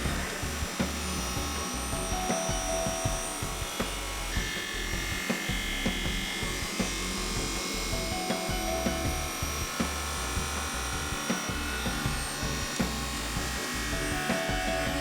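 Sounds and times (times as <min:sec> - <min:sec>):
background music: 0:00.0 - 0:15.0
grinding wheel whirring: 0:00.0 - 0:15.0.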